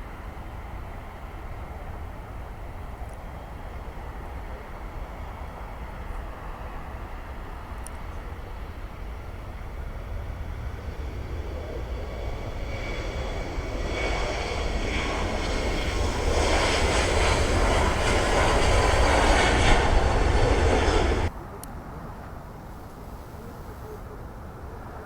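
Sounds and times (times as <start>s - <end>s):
jet engines roaring at takeoff: 0.0s - 21.3s.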